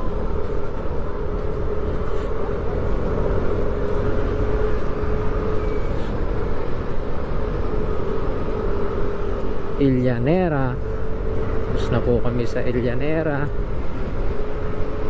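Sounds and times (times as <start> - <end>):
motorcycle engine hum: 0.0 - 15.0.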